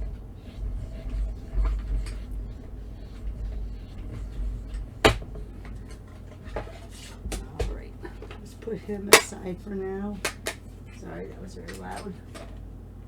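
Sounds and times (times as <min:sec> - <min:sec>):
hand-cranked machine rumbling: 0:00.0 - 0:12.7.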